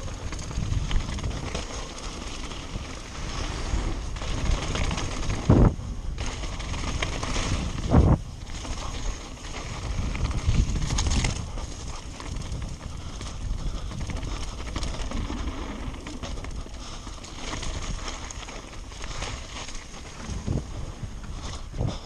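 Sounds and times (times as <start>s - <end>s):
bike clicks and rattles: 0.0s - 22.0s
low wind rumble on camera: 0.0s - 22.0s.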